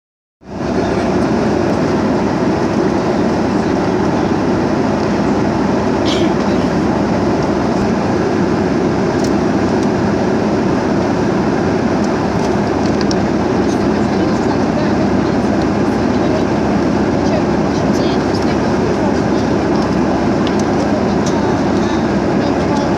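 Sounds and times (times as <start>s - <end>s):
airliner cabin engine noise: 0.4s - 22.9s.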